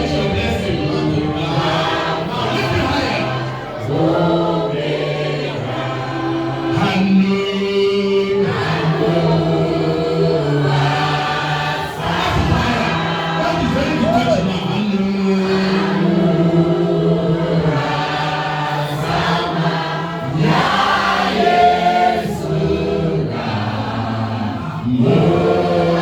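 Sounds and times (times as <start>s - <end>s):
choir singing worship song: 0.0s - 26.0s.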